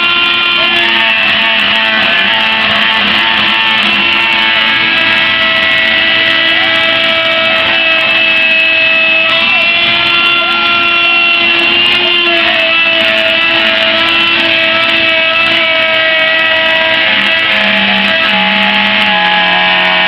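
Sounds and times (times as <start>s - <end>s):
router spindle high whine: 0.0s - 20.0s
stepper motors gliding pitch: 0.0s - 20.0s.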